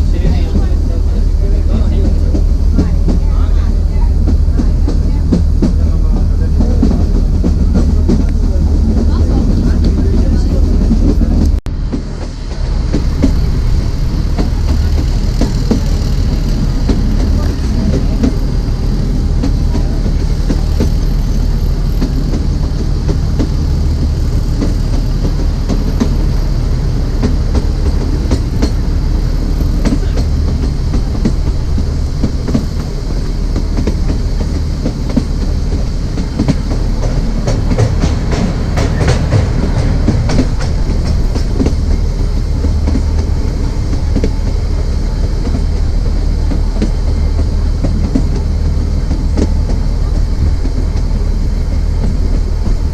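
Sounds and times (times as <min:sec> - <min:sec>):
train rumble: 0:00.0 - 0:52.9
wheels clicking over rail joints: 0:00.0 - 0:52.9.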